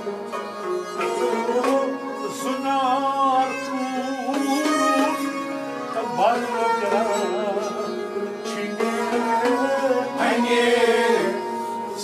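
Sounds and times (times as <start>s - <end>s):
bowed string melody: 0.0s - 12.0s
harmonium chords: 0.0s - 12.0s.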